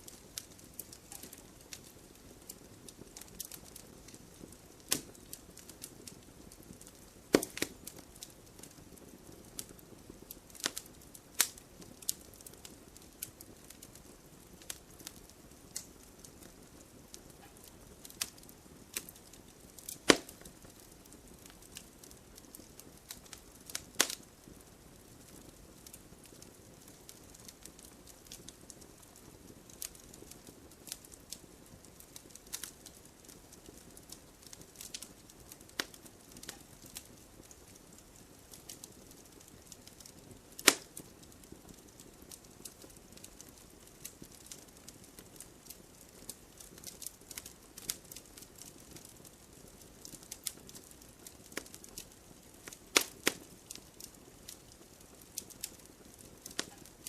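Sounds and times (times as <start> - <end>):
faint steady hiss: 0.0 - 57.0
wood fire crackling: 0.0 - 57.0.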